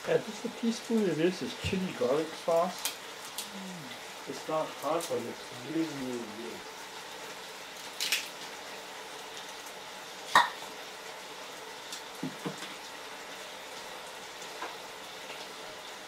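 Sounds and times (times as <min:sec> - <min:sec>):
chicken sizzling in a wok: 0:00.0 - 0:16.0.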